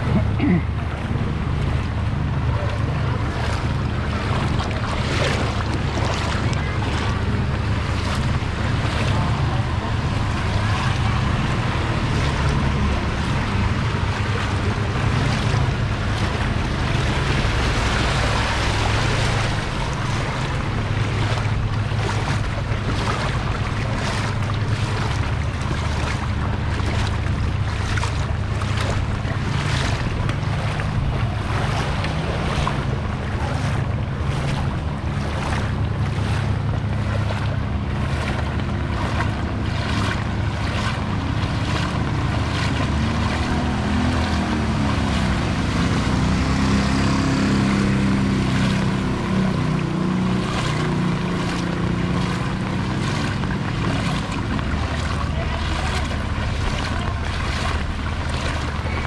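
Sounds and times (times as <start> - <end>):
feet splashing through water: 0.0 - 59.0
low wavering hum: 0.0 - 59.0
wind rumble on microphone: 0.0 - 59.0.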